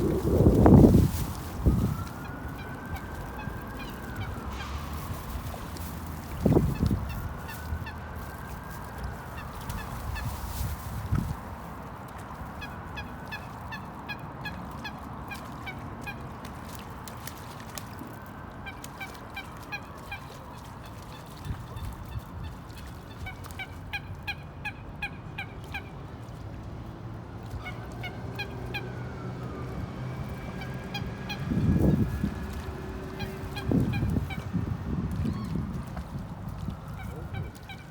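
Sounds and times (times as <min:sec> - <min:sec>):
waterbirds honking: 0:00.0 - 0:11.2, 0:11.8 - 0:37.9.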